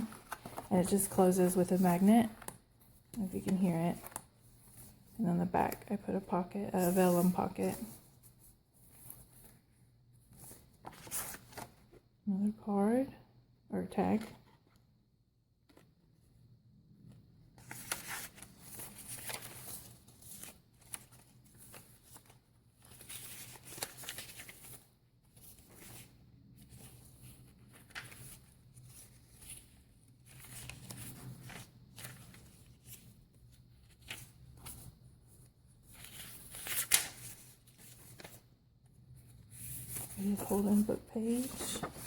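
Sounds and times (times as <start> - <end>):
paper pages rustling: 0.0 - 5.8, 6.8 - 12.1, 17.1 - 42.0.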